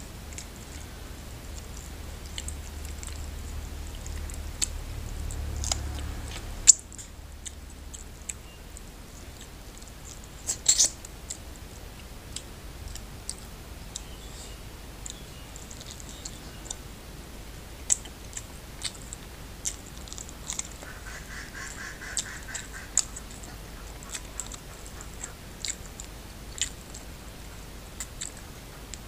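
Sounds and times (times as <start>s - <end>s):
chewing and wet mouth sounds: 0.0s - 29.0s
low hum: 0.0s - 29.0s.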